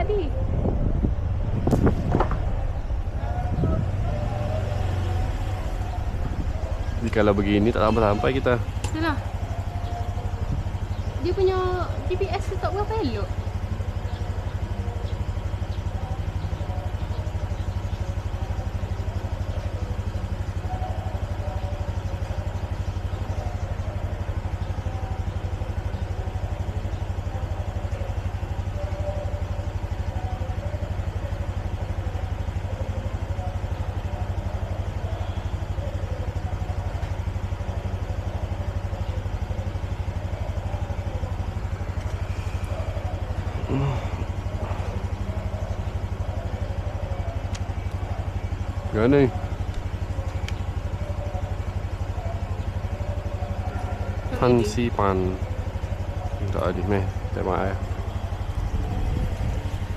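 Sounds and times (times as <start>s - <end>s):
motorbike engine running: 0.0s - 59.9s.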